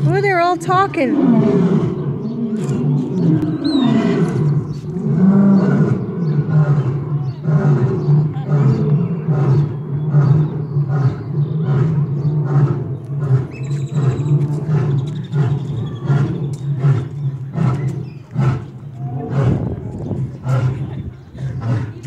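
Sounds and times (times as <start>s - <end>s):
lion roaring: 1.0s - 22.0s.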